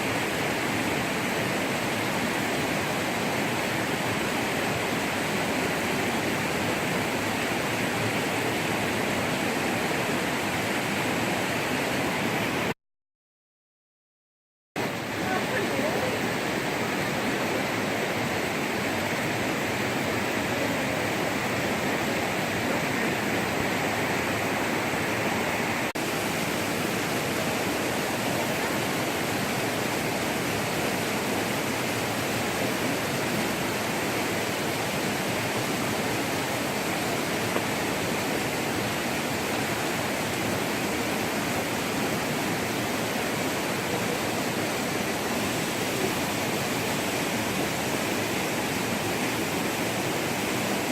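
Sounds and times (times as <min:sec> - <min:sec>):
flowing water rushing: 0:00.0 - 0:12.8, 0:14.8 - 0:50.9.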